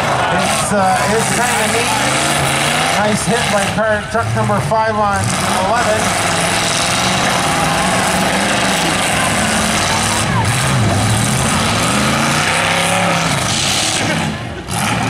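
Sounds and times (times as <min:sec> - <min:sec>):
pickup truck engines revving: 0:00.0 - 0:15.0.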